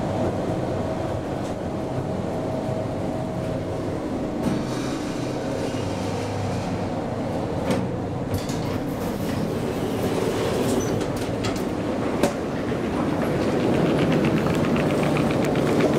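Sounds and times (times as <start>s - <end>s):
station concourse noise: 0.0s - 15.9s.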